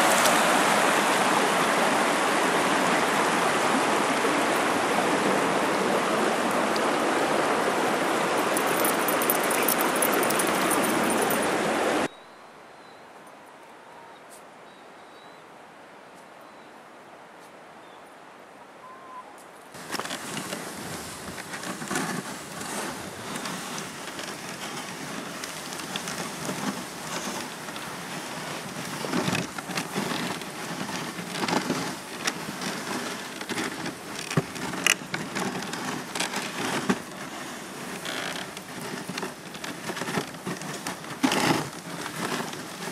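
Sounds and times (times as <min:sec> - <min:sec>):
sled runners scraping on snow: 0:00.0 - 0:12.0, 0:19.8 - 0:42.9.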